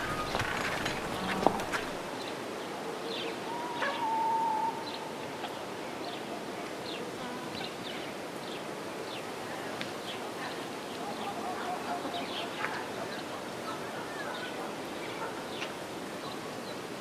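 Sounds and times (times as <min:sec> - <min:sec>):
small birds chirping: 0:00.0 - 0:02.4, 0:04.8 - 0:16.8
steady background hiss: 0:00.0 - 0:17.0.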